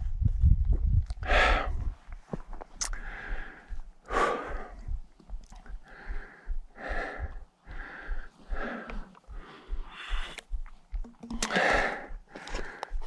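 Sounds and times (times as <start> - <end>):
person breathing hard: 1.2 - 10.8, 11.4 - 13.0.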